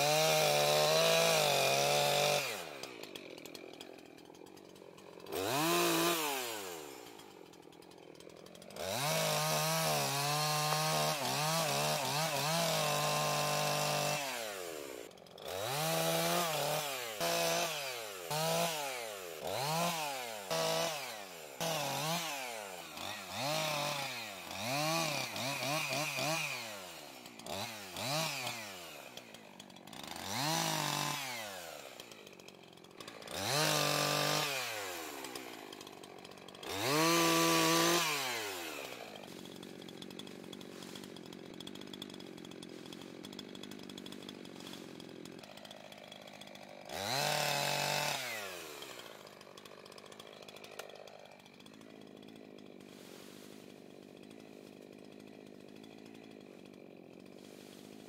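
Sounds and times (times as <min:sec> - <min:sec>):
chainsaw revving and idling: 0:00.0 - 0:58.0.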